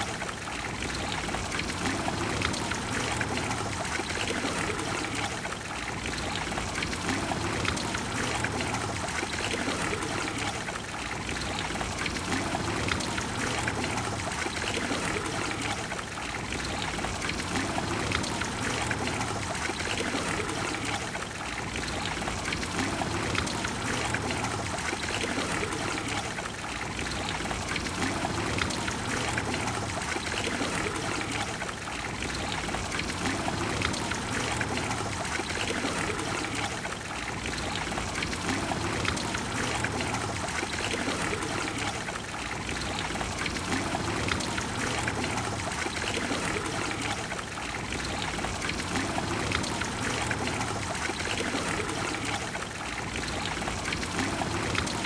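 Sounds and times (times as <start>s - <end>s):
fountain water splashing into basin: 0.0s - 55.0s.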